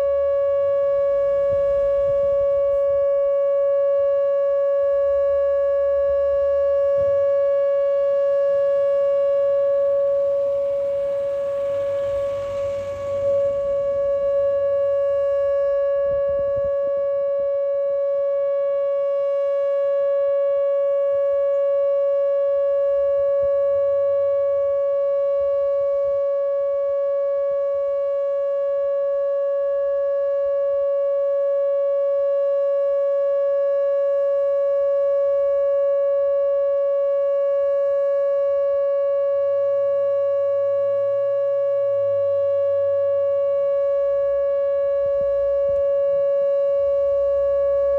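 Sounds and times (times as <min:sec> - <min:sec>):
warning siren steady tone: 0:00.0 - 0:47.9.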